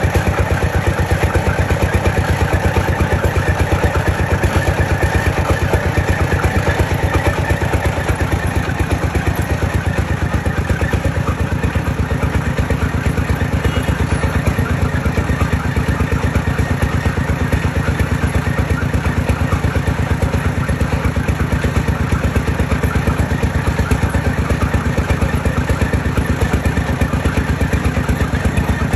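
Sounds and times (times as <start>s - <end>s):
machine engine thumping: 0.0s - 28.9s.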